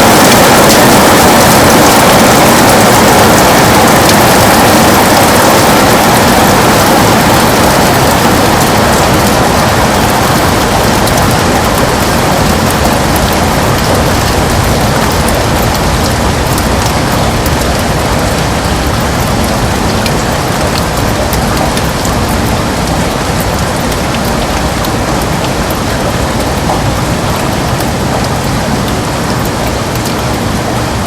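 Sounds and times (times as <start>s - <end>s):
heavy rain on a window: 0.0s - 31.0s.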